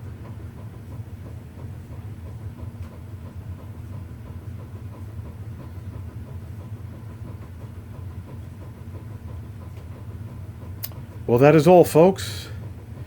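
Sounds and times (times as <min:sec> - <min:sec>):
fan winding down whir: 0:00.0 - 0:13.0.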